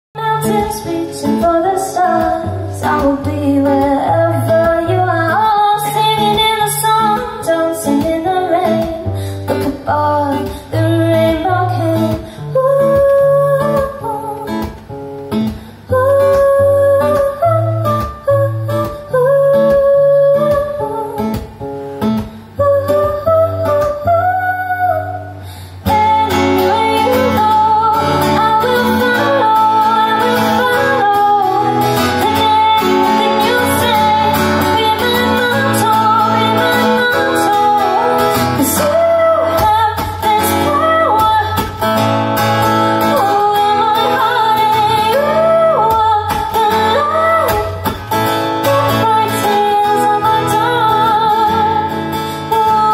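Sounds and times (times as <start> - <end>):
acoustic guitar: 0.2 - 52.9
woman singing: 0.2 - 52.9.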